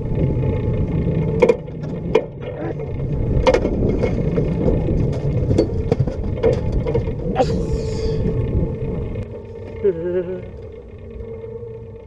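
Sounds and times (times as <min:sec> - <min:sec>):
boat motor running: 0:00.0 - 0:12.0
wind and water noise: 0:00.0 - 0:12.0.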